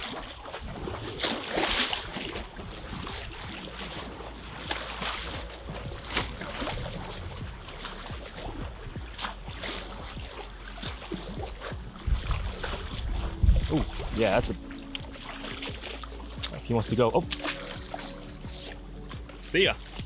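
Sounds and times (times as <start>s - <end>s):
water lapping and splashing: 0.0s - 20.0s
low steady rumble: 2.3s - 20.0s.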